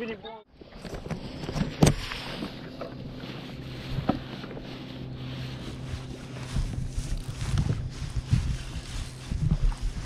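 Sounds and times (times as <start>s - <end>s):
water lapping against kayak hull: 0.5s - 10.0s
steady low hum: 0.7s - 10.0s
wind buffeting microphone: 1.0s - 10.0s.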